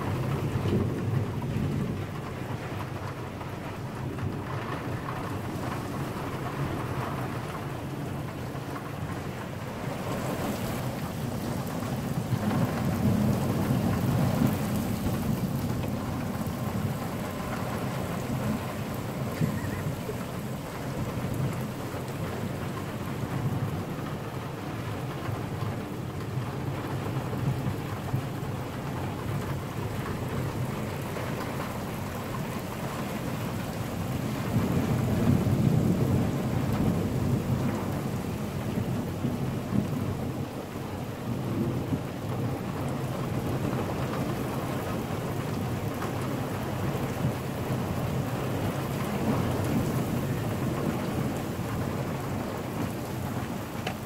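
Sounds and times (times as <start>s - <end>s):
rolling thunder: 0.0s - 54.0s
steady rain: 0.0s - 54.0s.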